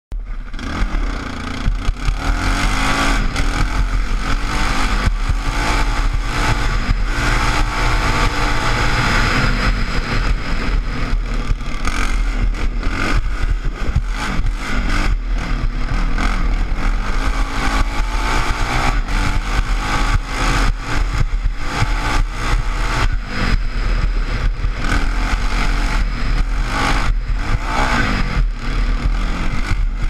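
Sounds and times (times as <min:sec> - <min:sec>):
quad engine revving: 0:00.2 - 0:30.0
wind rumble on microphone: 0:00.2 - 0:30.0.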